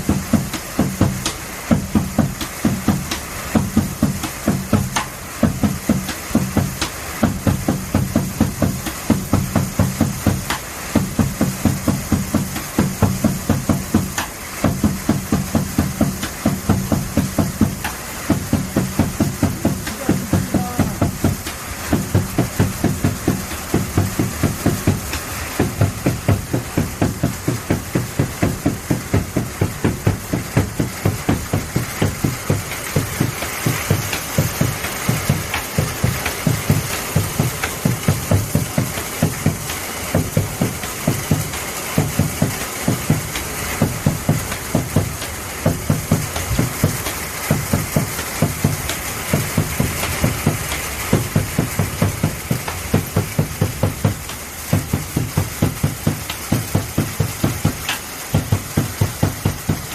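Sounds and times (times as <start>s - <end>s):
drums beaten in steady rhythm: 0.0s - 59.9s
heavy rain hiss: 0.0s - 59.9s.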